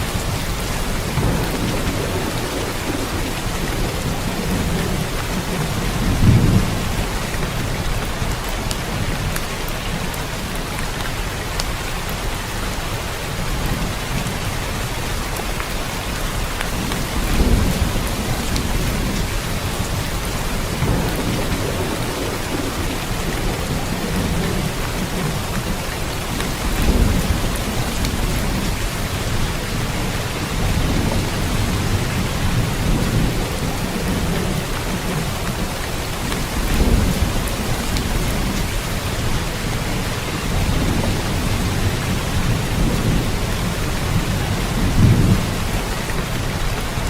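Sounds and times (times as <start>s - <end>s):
steady rain: 0.0s - 47.0s
low rolls of thunder: 0.1s - 9.4s, 16.7s - 47.0s.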